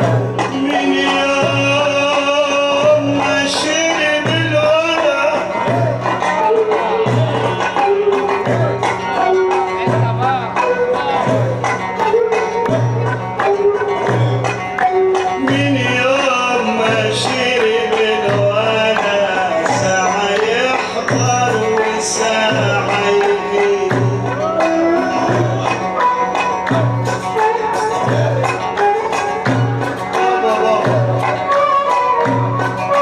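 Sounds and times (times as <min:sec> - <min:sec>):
hand drums: 0:00.0 - 0:33.0.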